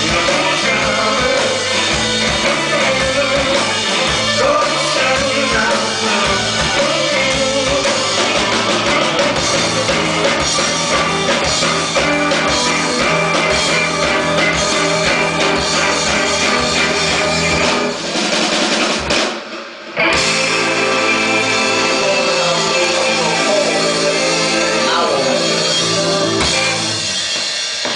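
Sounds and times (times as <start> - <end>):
live rock band playing: 0.0 - 27.9.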